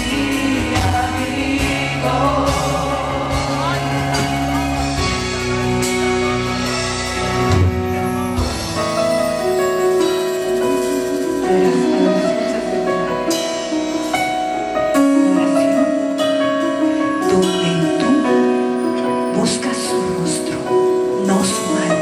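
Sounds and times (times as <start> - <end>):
worship band with keyboard chords: 0.0 - 22.0.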